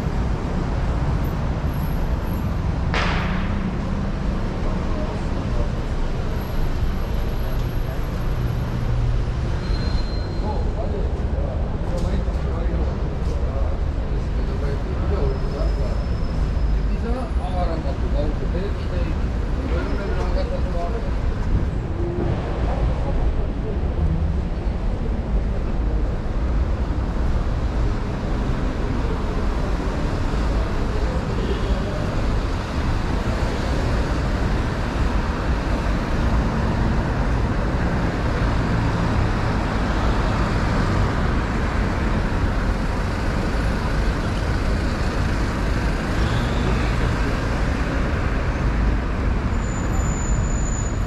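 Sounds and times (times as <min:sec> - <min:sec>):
city street traffic rumble: 0:00.0 - 0:51.0.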